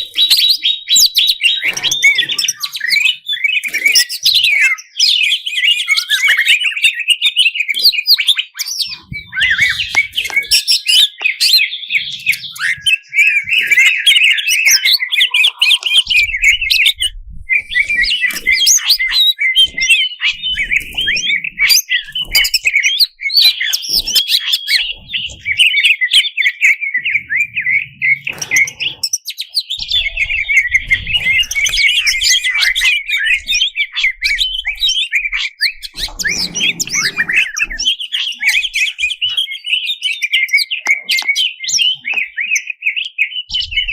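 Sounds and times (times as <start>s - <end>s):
bird singing chirps and trills: 0.0s - 43.9s.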